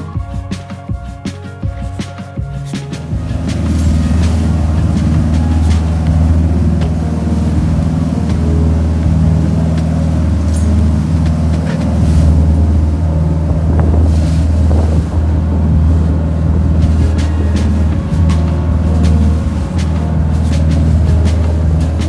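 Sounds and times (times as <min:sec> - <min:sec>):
boat engines droning: 0:00.0 - 0:22.0
wake rushing along hull: 0:00.0 - 0:22.0
wind buffeting microphone: 0:00.0 - 0:22.0.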